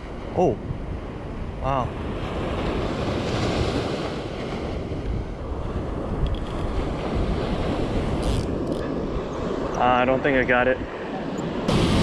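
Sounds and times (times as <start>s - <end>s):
wind buffeting microphone: 0.0s - 12.0s
surf breaking on beach: 1.5s - 12.0s.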